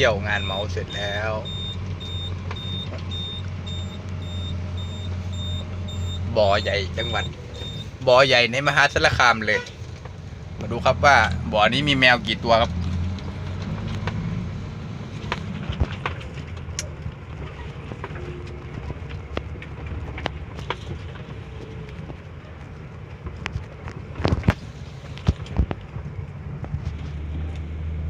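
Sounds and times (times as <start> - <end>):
engine and road rumble: 0.0 - 28.0.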